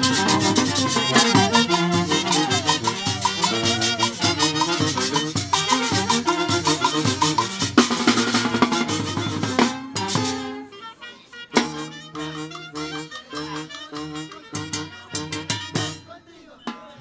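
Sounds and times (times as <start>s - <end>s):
folk band playing lively tune: 0.0s - 17.0s.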